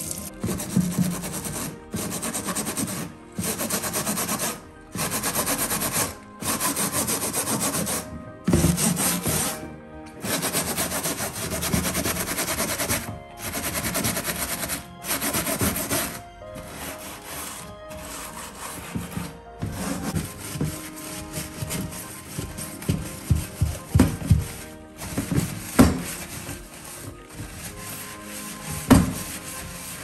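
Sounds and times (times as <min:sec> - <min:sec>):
steel scourer scrubbing plastic: 0:00.0 - 0:30.0.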